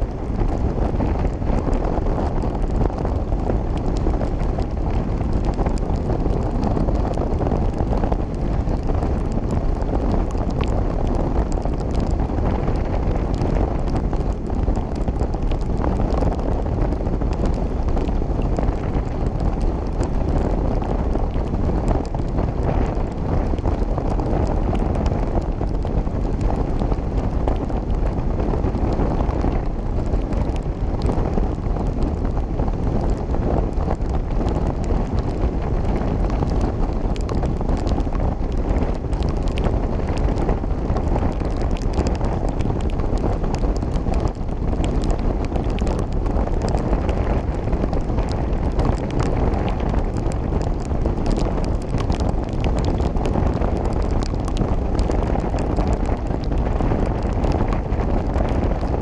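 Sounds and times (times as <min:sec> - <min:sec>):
motorcycle road noise: 0:00.0 - 0:59.0
wind rush on microphone: 0:00.0 - 0:59.0.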